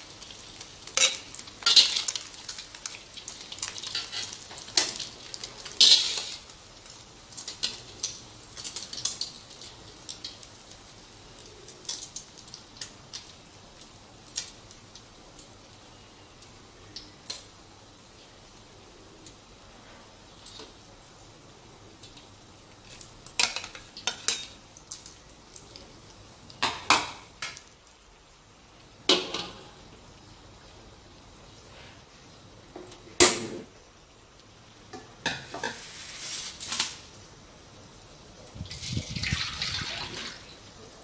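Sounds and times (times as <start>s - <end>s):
omelette sizzling in oil: 0.0s - 41.0s.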